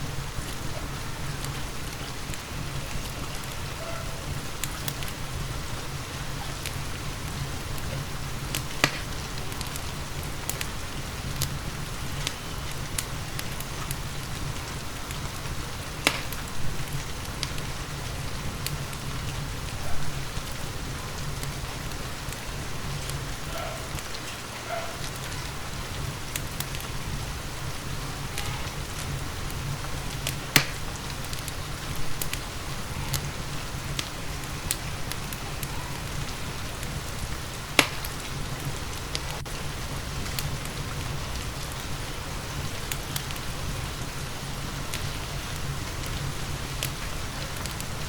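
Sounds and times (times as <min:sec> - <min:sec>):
steady rain: 0:00.0 - 0:48.0
wood fire crackling: 0:00.0 - 0:48.0
sharp pops from burning wood: 0:00.3 - 0:03.7, 0:04.3 - 0:20.6, 0:21.2 - 0:24.4, 0:25.0 - 0:25.6, 0:26.2 - 0:48.0.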